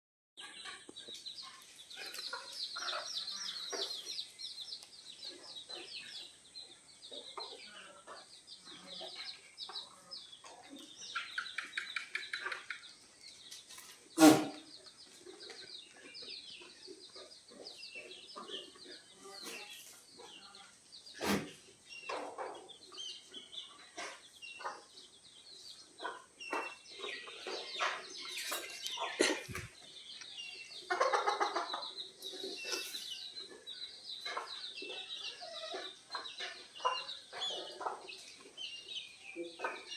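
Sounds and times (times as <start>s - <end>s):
chickens clucking: 0.4s - 39.9s.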